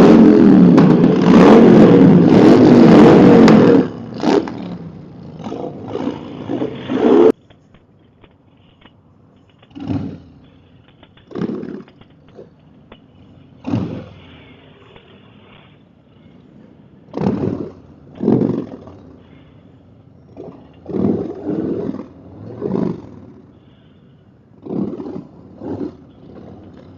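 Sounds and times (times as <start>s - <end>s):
motorcycle engine revving: 0.0s - 8.8s, 9.4s - 26.9s.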